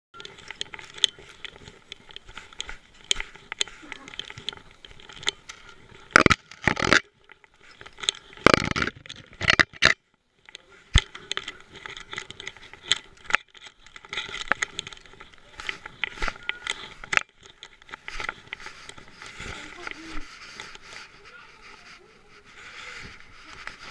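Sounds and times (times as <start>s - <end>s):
camera rubbing and scraping: 0.2s - 23.9s.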